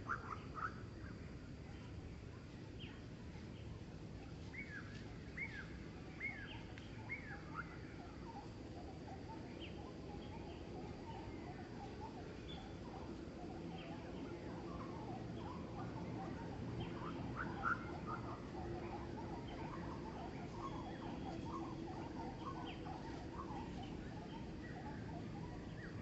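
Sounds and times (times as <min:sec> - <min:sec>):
low outdoor background: 0:00.0 - 0:26.0.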